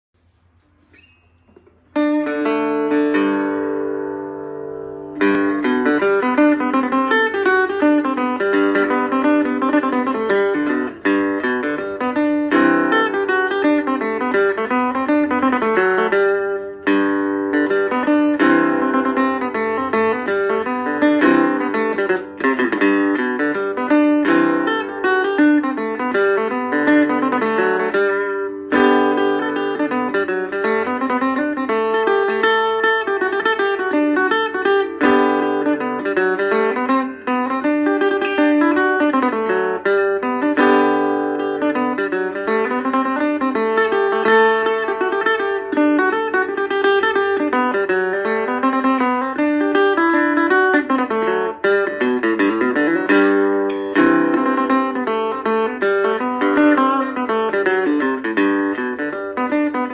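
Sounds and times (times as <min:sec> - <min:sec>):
resonator guitar plucked notes: 0:00.7 - 0:59.9.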